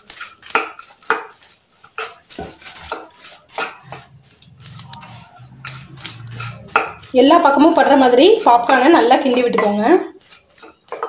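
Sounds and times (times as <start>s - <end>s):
wooden spatula scraping a pan: 0.0s - 11.0s.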